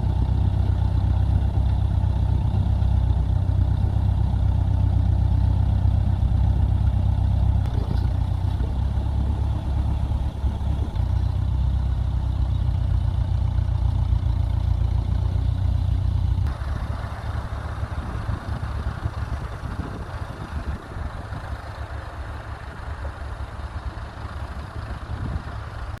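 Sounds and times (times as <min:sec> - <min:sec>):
tractor engine humming: 0:00.0 - 0:26.0.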